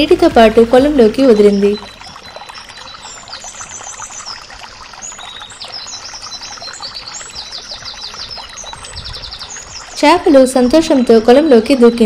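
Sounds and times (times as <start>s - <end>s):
small birds chirping: 0.0s - 12.0s
water pouring and splashing: 0.0s - 12.0s.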